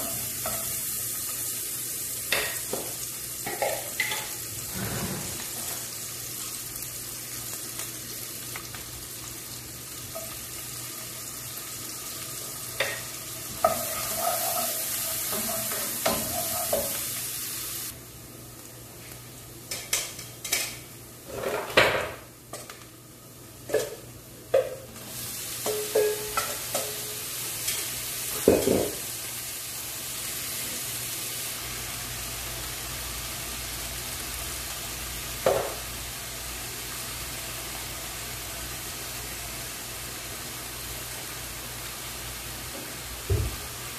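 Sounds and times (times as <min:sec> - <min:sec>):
food sizzling in a frying pan: 0:00.0 - 0:43.9.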